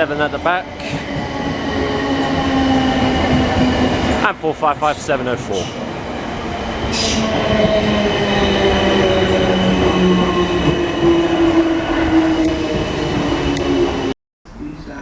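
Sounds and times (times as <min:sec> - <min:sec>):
wheels rumbling on rails: 0:00.0 - 0:14.2.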